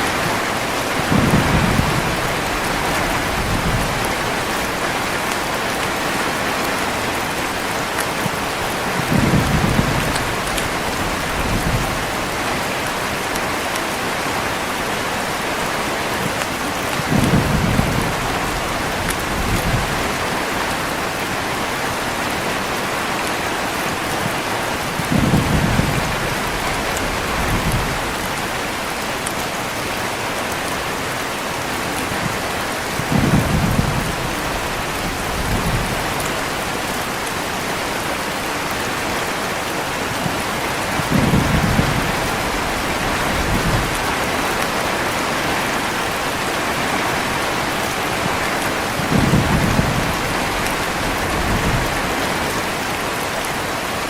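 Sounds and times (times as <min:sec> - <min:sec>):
heavy rain: 0:00.0 - 0:54.0
thunder rumbling: 0:00.1 - 0:13.4, 0:16.2 - 0:22.7, 0:23.8 - 0:29.6, 0:31.7 - 0:37.6, 0:40.2 - 0:52.5.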